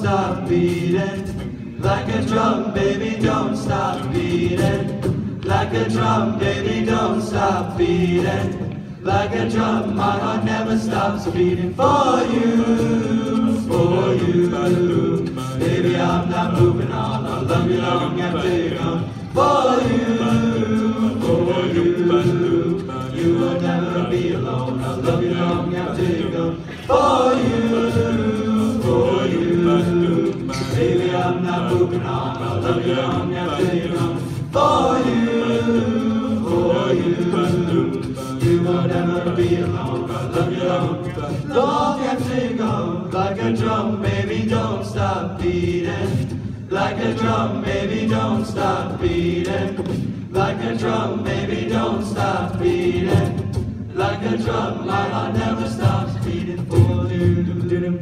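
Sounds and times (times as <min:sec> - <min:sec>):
male group singing in harmony: 0:00.0 - 0:58.0.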